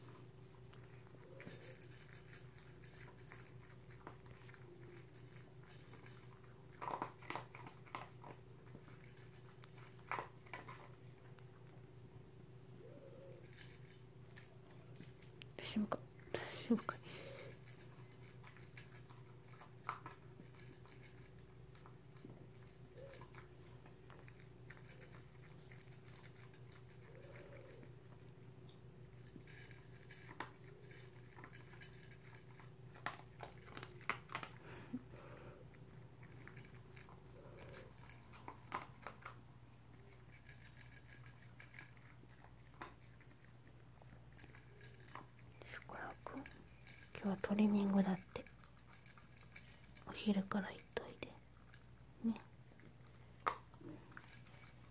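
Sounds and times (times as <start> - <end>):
dog chewing food: 0.0 - 12.7, 13.3 - 54.9.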